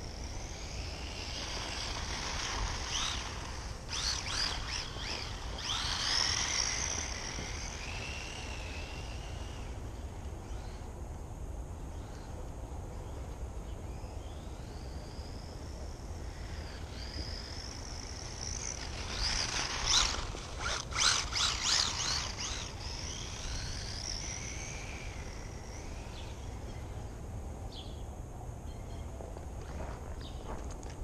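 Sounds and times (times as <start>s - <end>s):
rc car electric motor whine: 0.0s - 11.1s, 11.9s - 27.9s.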